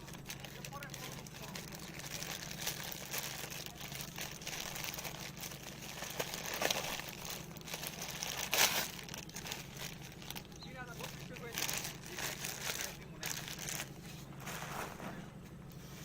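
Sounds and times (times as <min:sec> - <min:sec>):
packaging rustling and crinkling: 0:00.0 - 0:15.2
low hum: 0:00.0 - 0:16.0.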